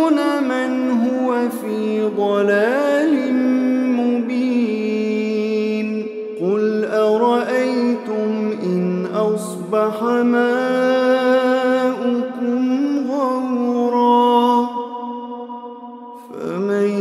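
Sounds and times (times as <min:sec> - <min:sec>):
man chanting melodic recitation: 0:00.0 - 0:15.0, 0:16.2 - 0:17.0.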